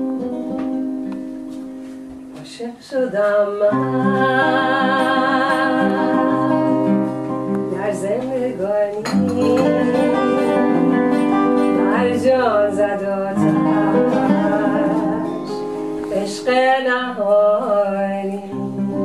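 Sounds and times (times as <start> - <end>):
song with singing voice: 2.3 - 19.0.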